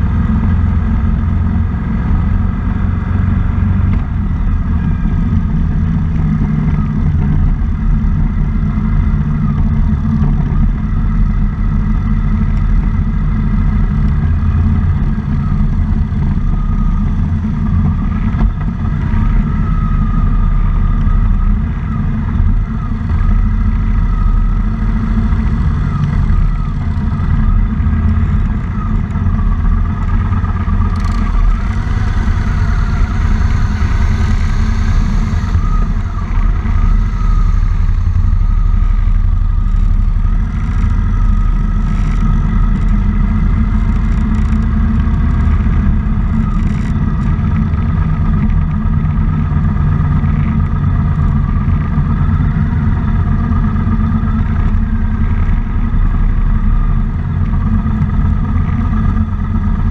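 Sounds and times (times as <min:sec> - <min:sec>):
motorcycle engines cruising: 0:00.0 - 0:59.9.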